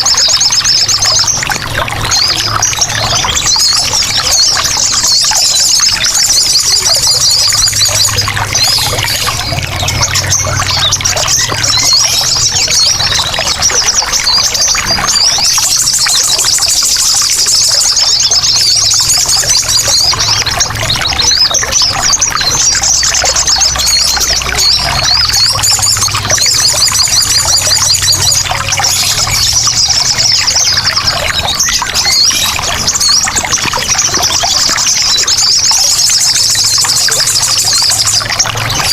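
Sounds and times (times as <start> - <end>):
birds calling in rapid trills: 0.0 - 38.9
trickle of running water: 0.0 - 38.9.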